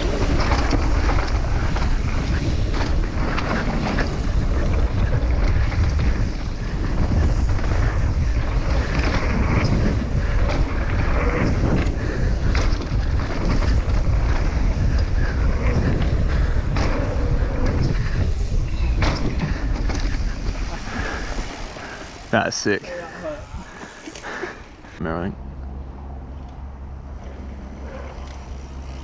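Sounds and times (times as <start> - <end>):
wind rushing over microphone: 0.0 - 24.0
bike knocking and rattling: 0.0 - 25.0, 26.3 - 29.0
tyres on dirt: 0.0 - 25.0.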